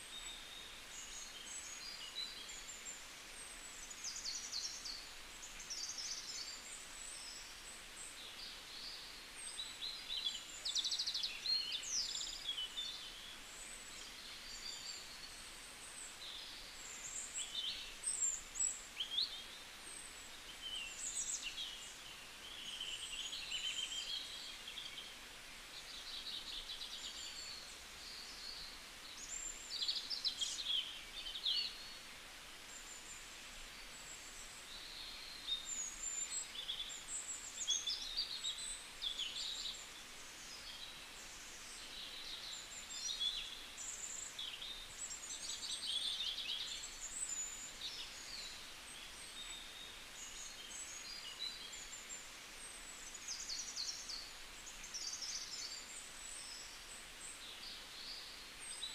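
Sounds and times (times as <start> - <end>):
small birds chirping and singing: 0.0 - 58.9
steady hiss: 0.0 - 58.9.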